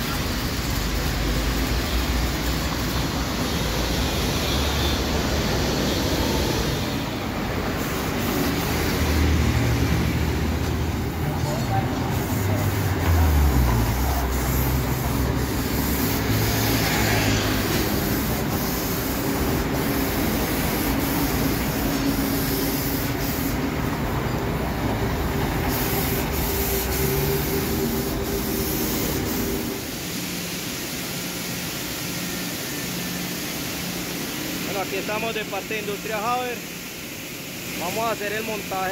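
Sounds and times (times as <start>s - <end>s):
paint spray gun hissing: 0.0s - 38.9s.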